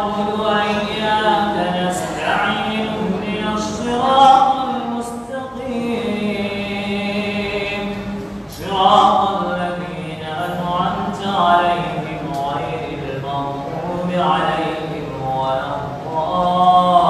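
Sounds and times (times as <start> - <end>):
man chanting recitation: 0.0 - 17.0.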